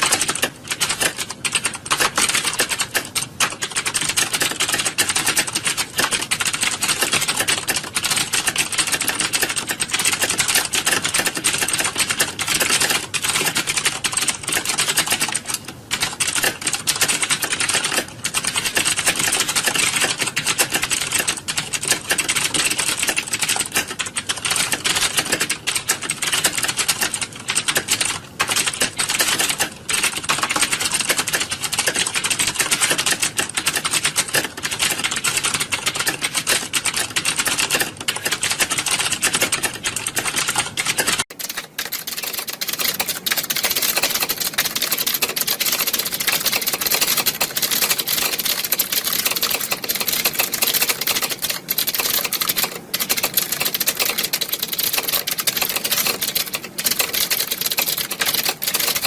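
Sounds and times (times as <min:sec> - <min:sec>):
many keyboards typing: 0:00.0 - 0:59.0.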